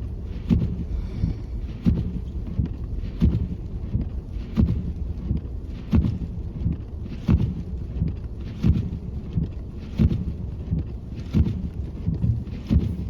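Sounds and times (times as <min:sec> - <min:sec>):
windshield wipers sweeping: 0:01.7 - 0:13.0.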